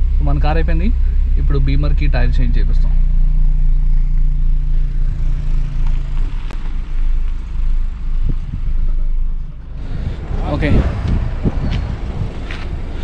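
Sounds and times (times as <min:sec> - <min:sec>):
car engine hum from inside: 0:00.0 - 0:13.0.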